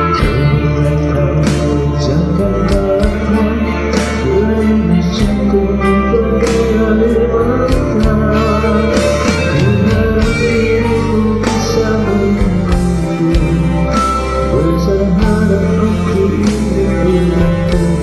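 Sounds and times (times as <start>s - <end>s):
bass and beat: 0.0s - 18.0s
guitar: 0.0s - 18.0s
person singing: 0.0s - 18.0s.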